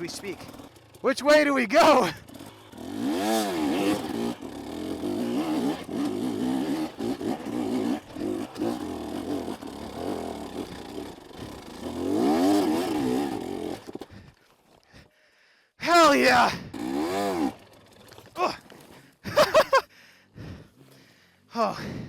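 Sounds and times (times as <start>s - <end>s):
dirt bike engine revving: 0.0s - 14.4s, 15.9s - 19.8s.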